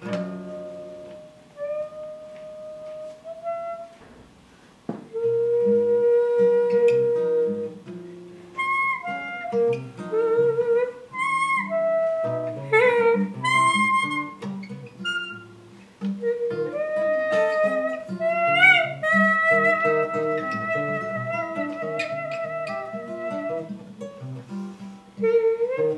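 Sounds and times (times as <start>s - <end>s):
saxophone: 0.0s - 4.3s, 5.1s - 25.9s
plucked acoustic guitar: 0.0s - 25.9s.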